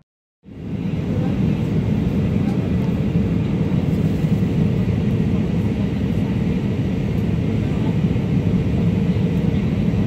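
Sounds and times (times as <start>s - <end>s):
aircraft cabin roar: 0.4s - 10.0s.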